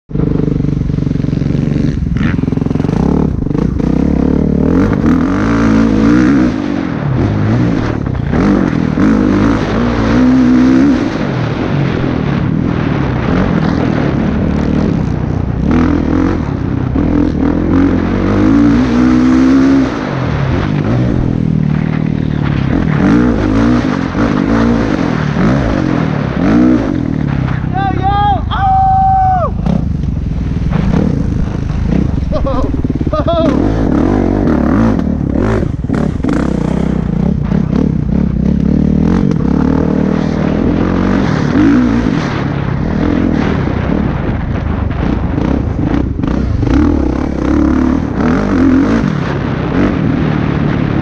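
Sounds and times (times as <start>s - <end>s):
dirt bike engine revving: 0.1s - 51.0s.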